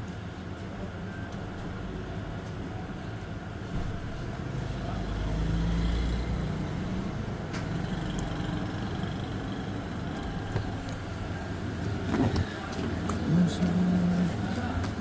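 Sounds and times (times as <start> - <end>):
motor vehicle rumble: 1.4 - 15.0.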